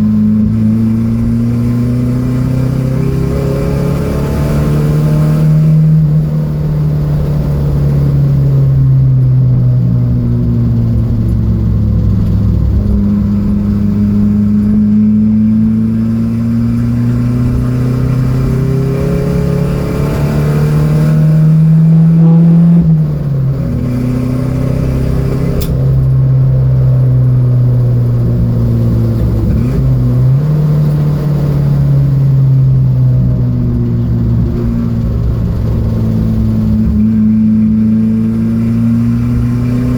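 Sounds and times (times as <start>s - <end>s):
race car engine revving through gears: 0.0s - 39.9s.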